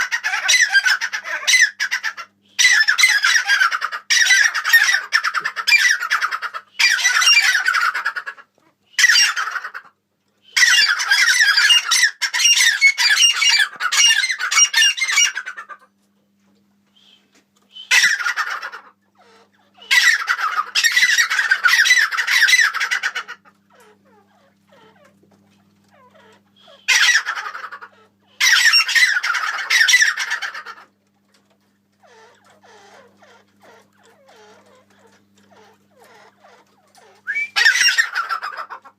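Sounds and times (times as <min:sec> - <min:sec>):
caged birds squawking: 0:00.0 - 0:16.1, 0:16.9 - 0:38.9.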